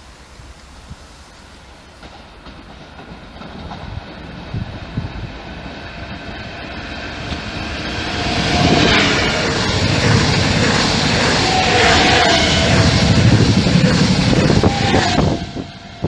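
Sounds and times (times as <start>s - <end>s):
train wheels rumbling on rails: 0.0s - 16.0s
train whine: 0.0s - 16.0s
train knocks: 1.9s - 6.4s, 7.1s - 16.0s.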